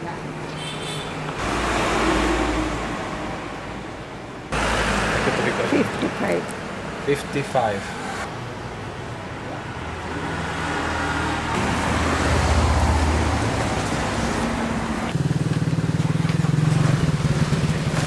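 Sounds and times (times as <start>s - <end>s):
low engine hum of traffic: 0.0s - 18.0s.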